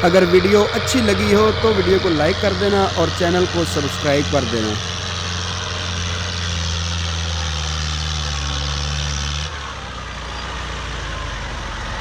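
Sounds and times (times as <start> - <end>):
tractor diesel engine hum: 0.0 - 12.0.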